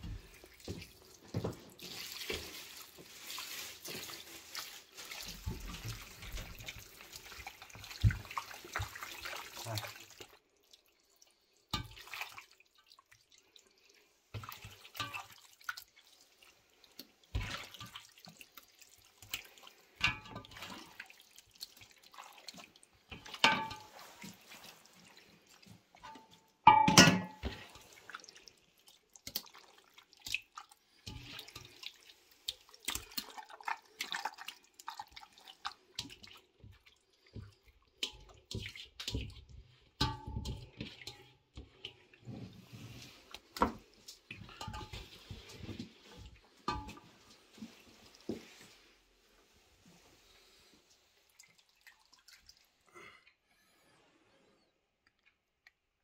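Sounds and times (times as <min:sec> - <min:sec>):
wet squelching of hands in meat: 0:00.2 - 0:26.0, 0:27.4 - 0:40.0, 0:40.6 - 0:52.9.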